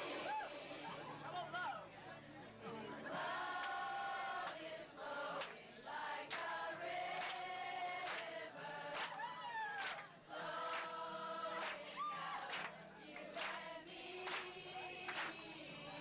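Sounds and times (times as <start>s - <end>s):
layered voices singing: 0.0s - 1.2s, 2.6s - 16.0s.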